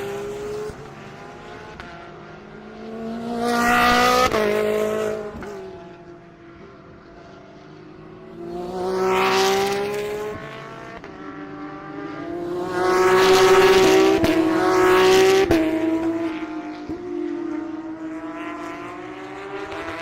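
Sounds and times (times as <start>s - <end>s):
race cars accelerating past: 0.0s - 20.0s.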